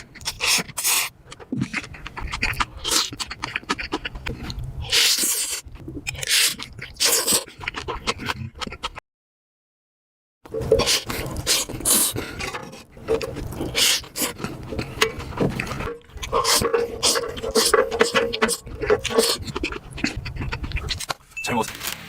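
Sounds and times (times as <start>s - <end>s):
slurping noodles: 0.0s - 9.0s, 10.5s - 21.1s
wet chewing and smacking: 0.0s - 9.0s, 10.5s - 21.3s.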